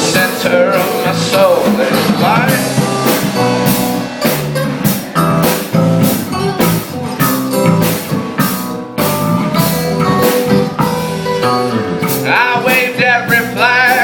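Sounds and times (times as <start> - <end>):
drums hitting steady beat: 0.0 - 14.0
instrumental rock music: 0.0 - 14.0.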